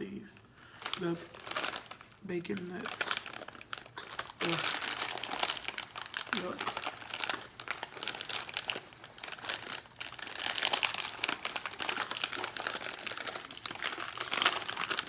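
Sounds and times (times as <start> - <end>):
plastic snack bag crinkling: 0.0 - 15.0.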